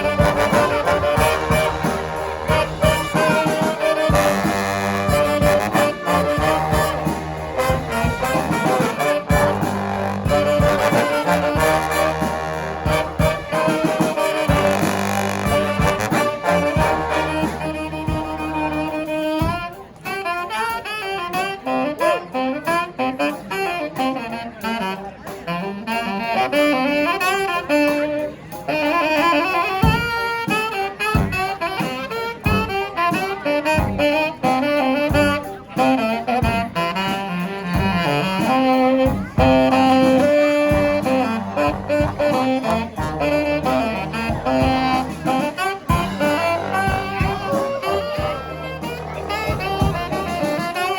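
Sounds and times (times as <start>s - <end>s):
brass band playing: 0.0s - 50.9s
drums: 0.0s - 50.9s
horn melody: 0.0s - 50.9s.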